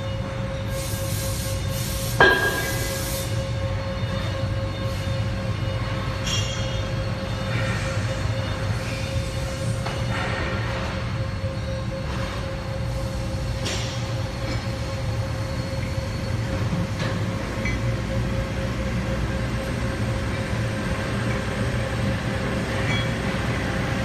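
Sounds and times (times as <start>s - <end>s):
machinery low hum: 0.0s - 24.0s
machinery whine: 0.0s - 24.0s.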